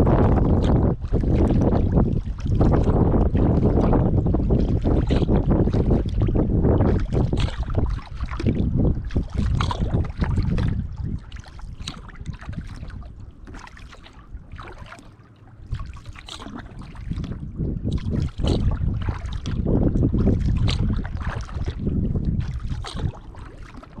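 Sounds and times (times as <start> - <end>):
wind buffeting microphone: 0.0 - 15.0, 15.6 - 24.0
paddle strokes splashing water: 0.0 - 24.0.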